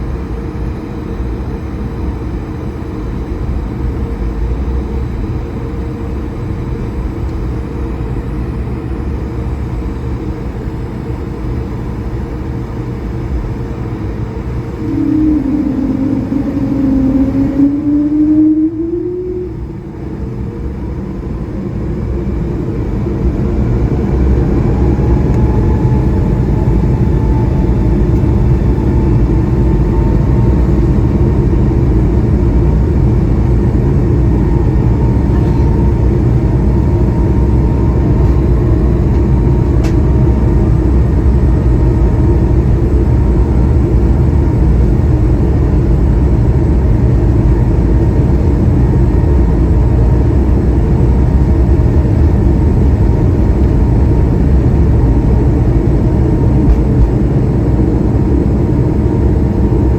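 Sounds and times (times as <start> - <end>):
faint engine whine: 0.0 - 59.9
jet engine low rumble: 0.0 - 59.9.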